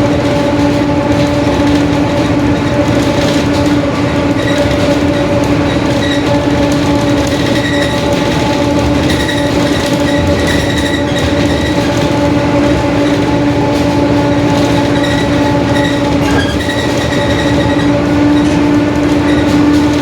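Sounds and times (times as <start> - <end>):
bus differential droning: 0.0 - 20.0
bus engine and road noise: 0.0 - 20.0.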